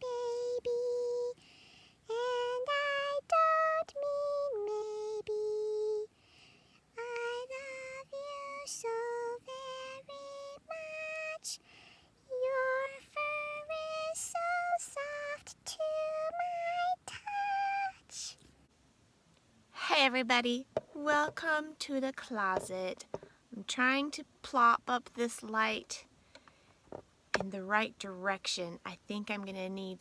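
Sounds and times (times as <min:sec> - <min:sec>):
woman singing unaccompanied: 0:00.0 - 0:06.1, 0:06.9 - 0:18.4, 0:19.8 - 0:26.1, 0:27.4 - 0:30.0.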